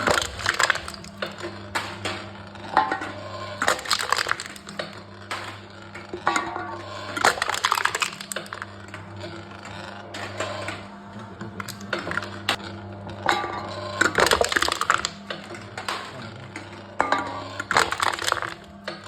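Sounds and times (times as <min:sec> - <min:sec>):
machine low hum: 0:00.0 - 0:19.0
metal cans crushed in machine: 0:00.0 - 0:19.0.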